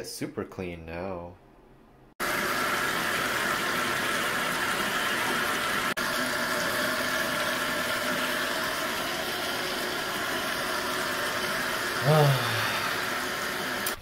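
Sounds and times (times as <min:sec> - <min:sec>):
water pouring into bathtub: 0:02.2 - 0:14.0.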